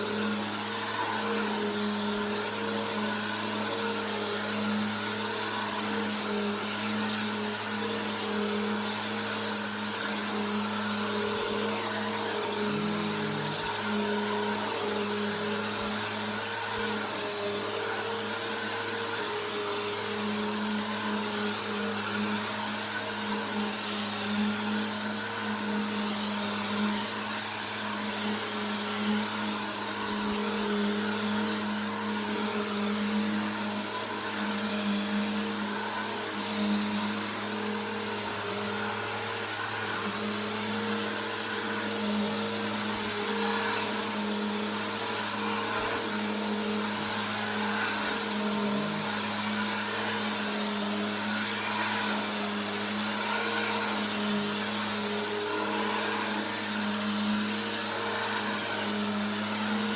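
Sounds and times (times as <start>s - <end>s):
upright vacuum cleaner running: 0.0s - 59.9s.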